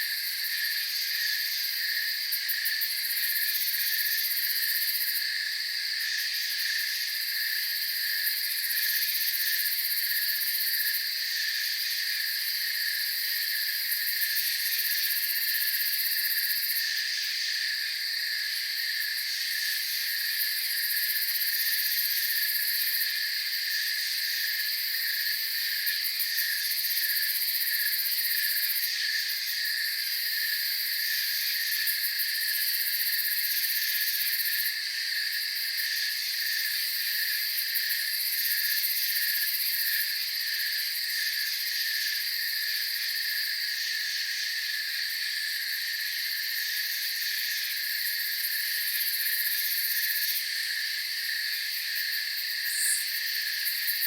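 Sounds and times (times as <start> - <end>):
crickets and insects chirping: 0.0 - 54.0.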